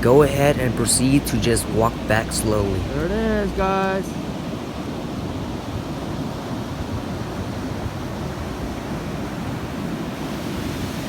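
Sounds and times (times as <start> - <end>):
ocean surf breaking: 0.0 - 11.0
wind noise on microphone: 0.0 - 11.0.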